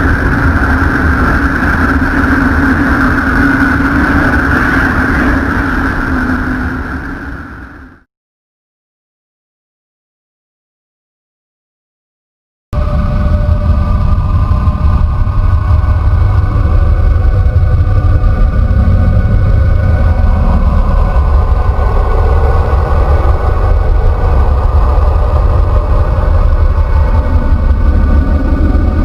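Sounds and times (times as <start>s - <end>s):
wavering droning tones: 0.0s - 8.0s, 12.8s - 29.0s
deep rumble: 0.0s - 8.1s, 12.8s - 29.0s.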